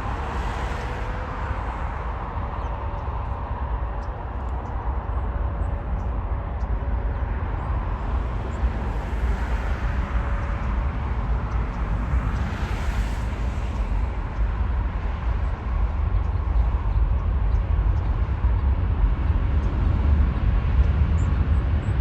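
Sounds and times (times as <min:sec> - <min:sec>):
jet engines passing: 0:00.0 - 0:22.0.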